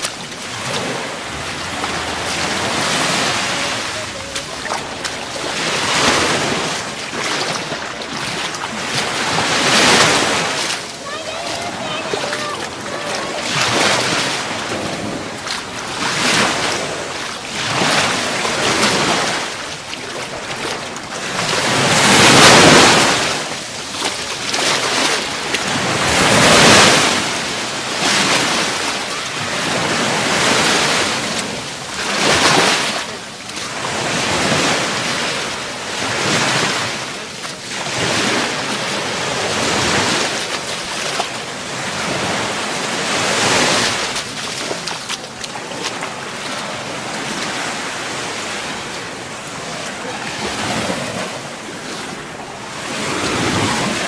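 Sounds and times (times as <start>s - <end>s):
surf washing onto beach: 0.0s - 54.0s.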